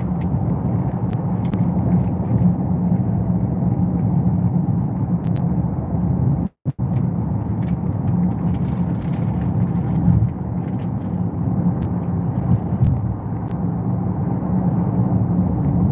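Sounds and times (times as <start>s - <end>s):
car road and engine rumble: 0.0s - 15.9s.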